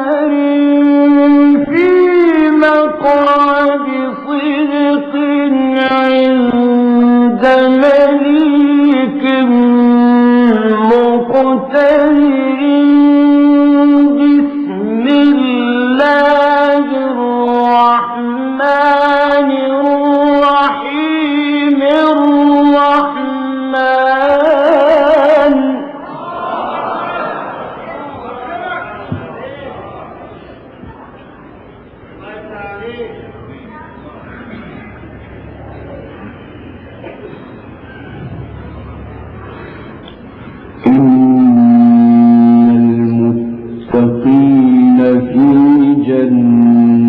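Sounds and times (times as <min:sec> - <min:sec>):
man chanting melodically: 0:00.0 - 0:26.1, 0:34.2 - 0:47.0.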